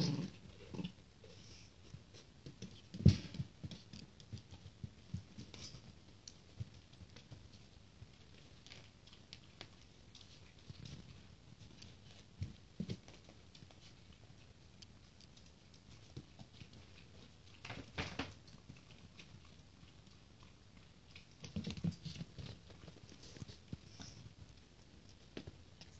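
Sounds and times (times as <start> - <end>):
puppy paws tapping floor: 1.7 - 25.9.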